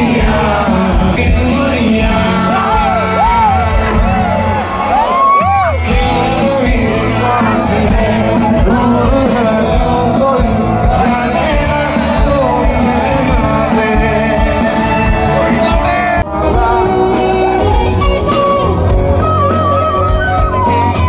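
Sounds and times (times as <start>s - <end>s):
man singing: 0.0s - 4.5s, 5.6s - 18.9s
live band music over pa: 0.0s - 21.0s.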